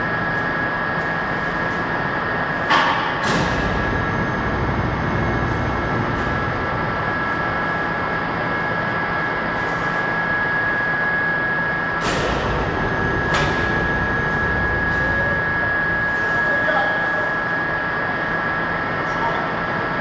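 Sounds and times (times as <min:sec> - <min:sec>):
workshop machine whining: 0:00.0 - 0:20.0.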